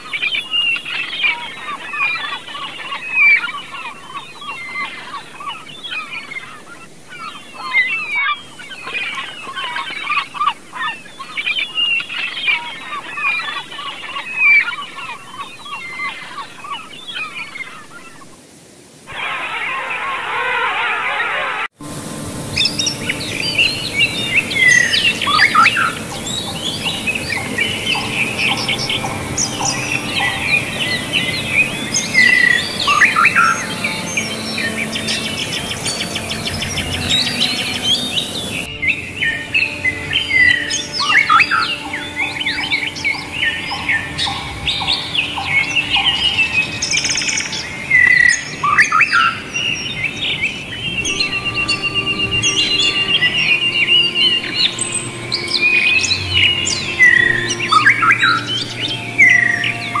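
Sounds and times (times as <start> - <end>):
forest birds singing: 0.0 - 18.5, 19.1 - 60.0
flowing stream water: 0.0 - 60.0.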